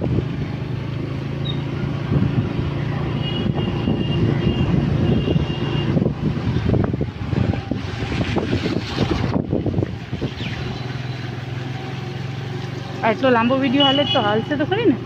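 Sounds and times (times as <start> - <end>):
road and wind noise: 0.0 - 15.0
vehicle engine humming: 0.0 - 15.0.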